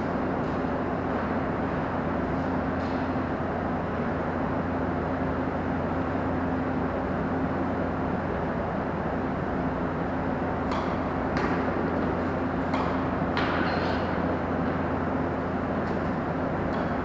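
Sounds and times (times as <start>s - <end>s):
machine rumble with low hum: 0.0s - 17.0s.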